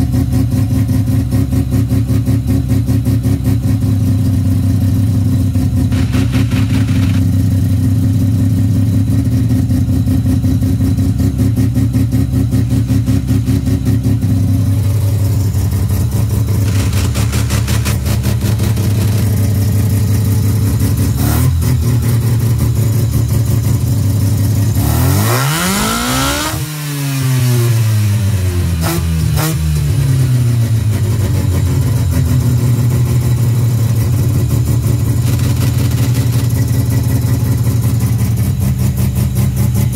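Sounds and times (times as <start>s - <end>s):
rotary engine idling and revving: 0.0s - 39.9s.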